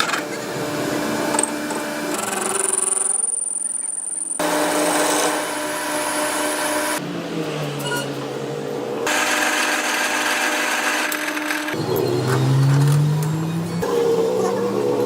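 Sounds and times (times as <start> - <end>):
workshop machinery humming and whining: 0.0 - 15.0.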